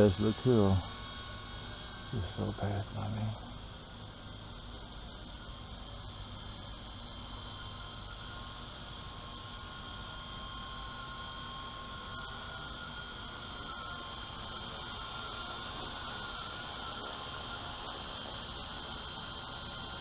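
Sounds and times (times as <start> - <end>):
rc helicopter rotor whine: 0.0 - 20.0.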